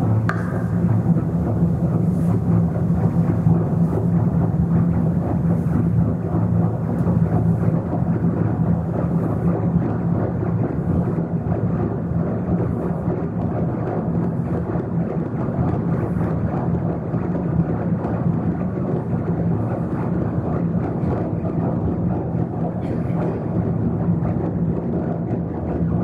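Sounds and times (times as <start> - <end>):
low sustained hum: 0.0 - 26.0.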